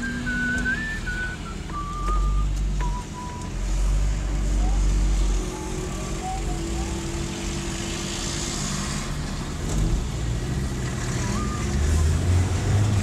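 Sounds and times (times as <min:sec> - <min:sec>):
car interior engine and road noise: 0:00.0 - 0:13.0
truck passing rumble: 0:00.0 - 0:13.0.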